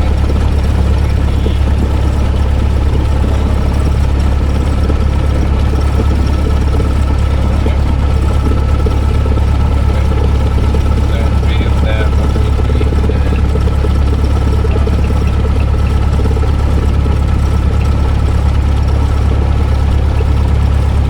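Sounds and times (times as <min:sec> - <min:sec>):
aircraft engine and propeller idling: 0:00.0 - 0:21.0.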